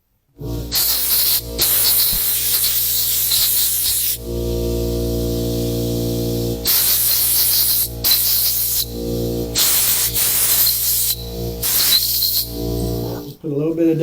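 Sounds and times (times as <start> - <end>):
steady hum: 0.3 - 13.4
compressed air blasts hissing: 0.4 - 13.4.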